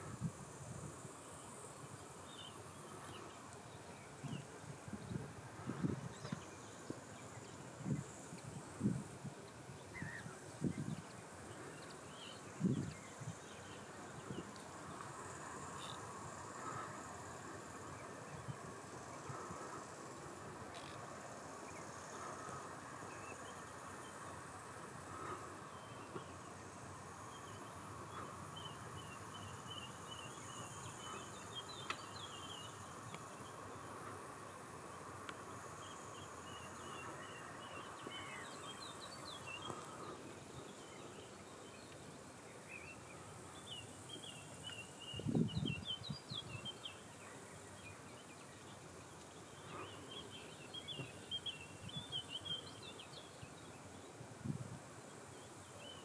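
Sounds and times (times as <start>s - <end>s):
thin high buzz: 0.0s - 53.6s
steady hiss: 0.0s - 56.0s.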